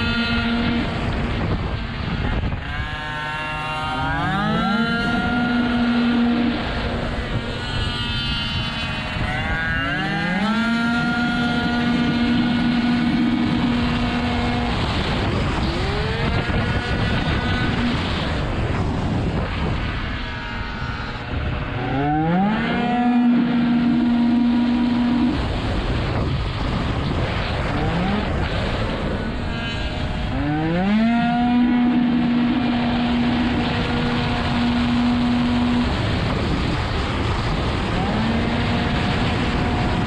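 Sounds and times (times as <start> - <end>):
scooter engine revving: 0.0 - 40.0
wind rush: 0.0 - 40.0.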